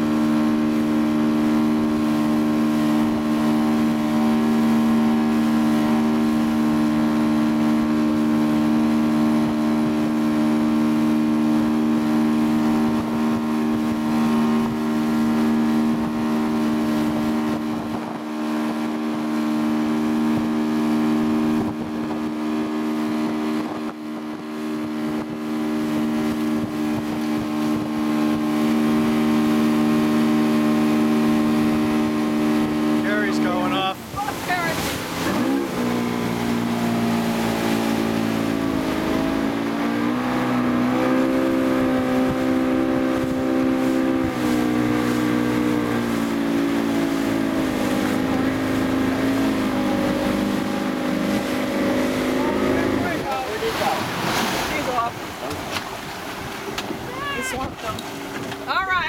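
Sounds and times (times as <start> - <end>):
motorboat engine running: 0.0 - 59.0
rush of boat wake: 0.0 - 59.0
wind: 0.0 - 59.0.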